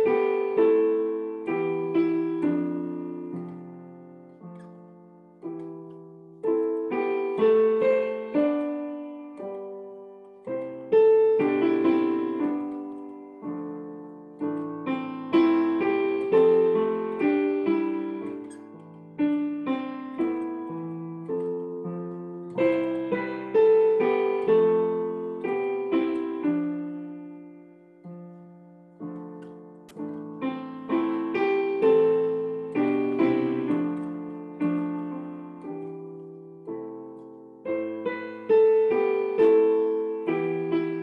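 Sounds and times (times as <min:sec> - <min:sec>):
digital piano playing chords: 0:00.0 - 0:41.0.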